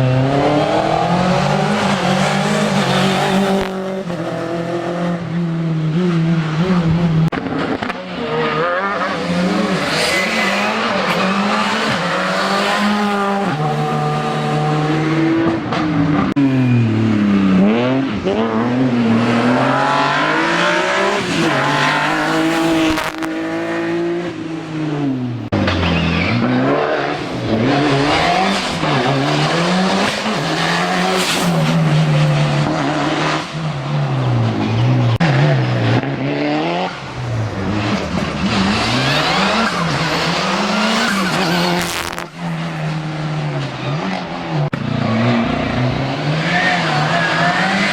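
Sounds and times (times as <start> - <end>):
racing car engine revving: 0.0 - 47.9.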